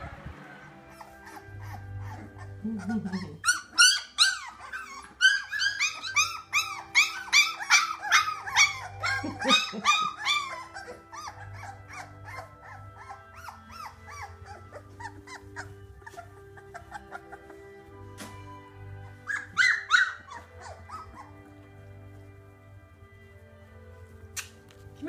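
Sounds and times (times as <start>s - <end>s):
puppies whining and squealing: 0.0s - 22.8s.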